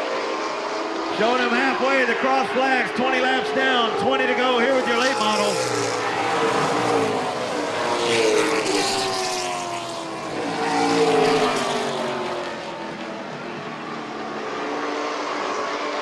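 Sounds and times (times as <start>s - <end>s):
race cars passing at full throttle: 0.0s - 16.0s.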